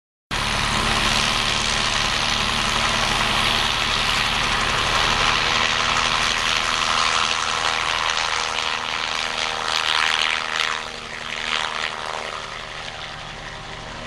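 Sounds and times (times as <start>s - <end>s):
engine humming with hiss: 0.3s - 9.6s, 10.3s - 14.0s.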